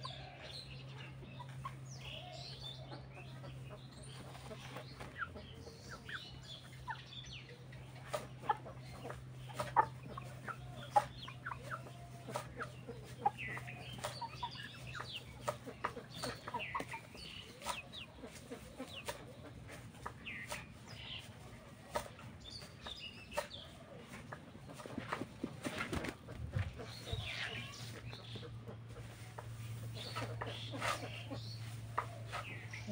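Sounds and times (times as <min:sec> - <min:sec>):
chickens clucking and chirping: 0:00.0 - 0:32.9.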